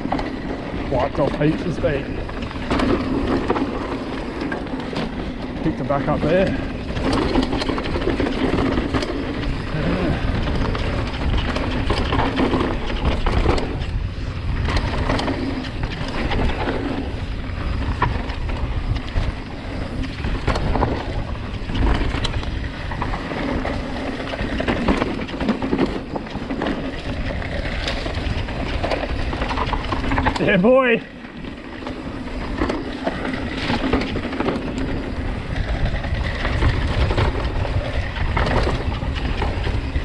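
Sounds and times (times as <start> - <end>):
bike rattling: 0.0 - 40.0
tyres rumbling over dirt: 0.0 - 40.0.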